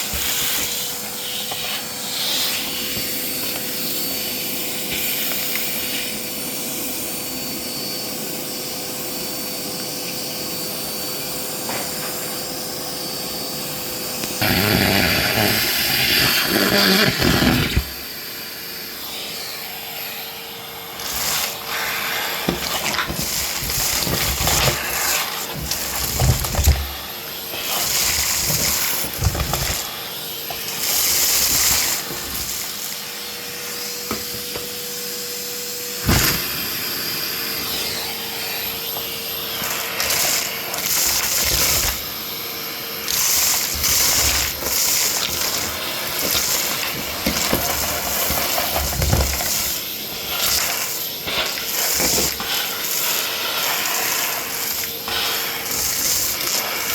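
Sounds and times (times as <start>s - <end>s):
vacuum cleaner on carpet: 0.0s - 56.9s.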